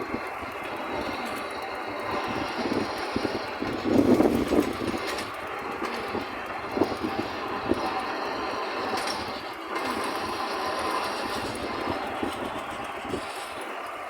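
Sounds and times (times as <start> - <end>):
train wheels rattling: 0.0 - 14.0
wheels knocking over rail joints: 0.0 - 14.0.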